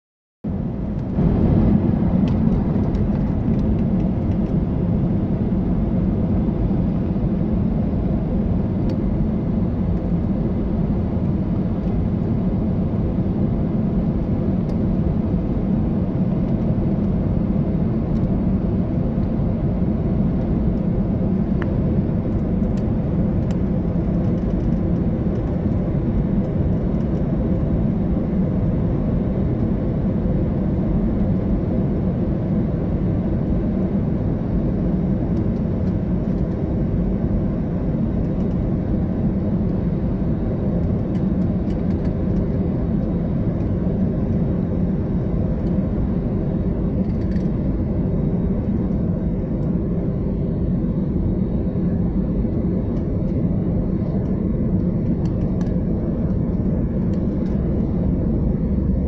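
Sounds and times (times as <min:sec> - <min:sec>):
airliner cabin engine rumble: 0:00.4 - 0:59.0.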